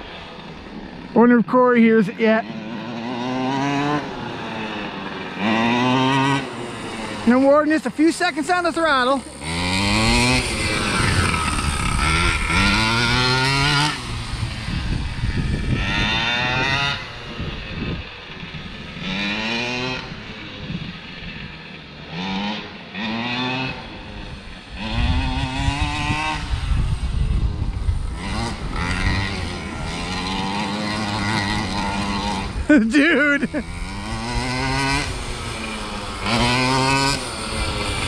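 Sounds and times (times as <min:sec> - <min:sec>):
small gas engine revving: 0:00.0 - 0:38.0.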